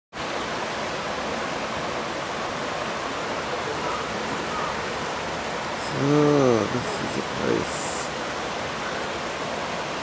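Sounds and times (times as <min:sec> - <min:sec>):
creek rushing over rocks: 0:00.1 - 0:10.0.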